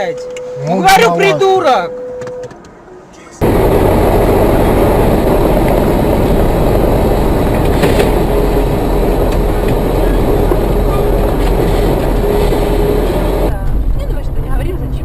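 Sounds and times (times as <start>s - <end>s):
vehicle driving rumble: 2.6s - 15.0s.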